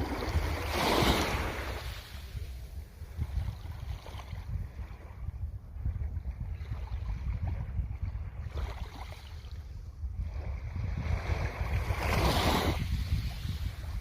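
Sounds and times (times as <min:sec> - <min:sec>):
small waves lapping: 0:00.0 - 0:14.0
wind on microphone: 0:00.0 - 0:14.0.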